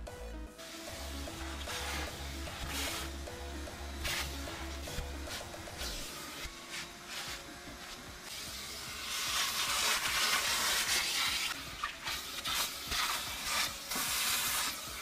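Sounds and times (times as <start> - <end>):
vacuum cleaner hose sucking: 0.6 - 3.3, 4.0 - 15.0.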